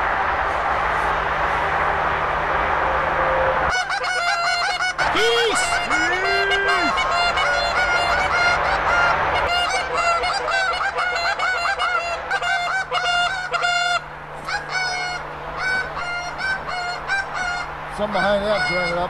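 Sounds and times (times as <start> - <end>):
geese honking: 3.7 - 19.0.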